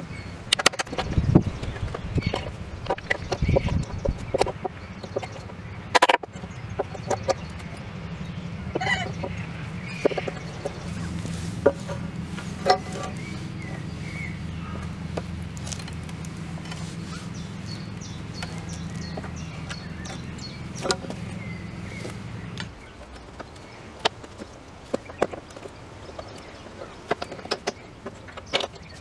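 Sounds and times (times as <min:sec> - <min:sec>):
steady low hum: 0:00.0 - 0:27.1
birds chirping: 0:00.0 - 0:29.0.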